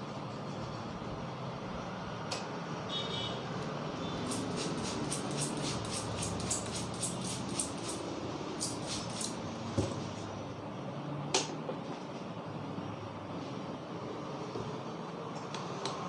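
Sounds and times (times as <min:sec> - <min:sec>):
street background noise: 0:00.0 - 0:16.0.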